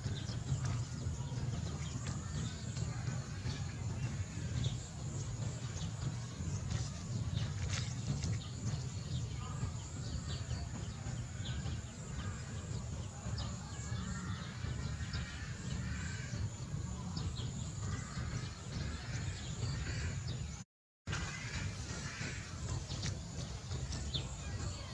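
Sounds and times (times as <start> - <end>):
low outdoor rumble: 0.0 - 24.9.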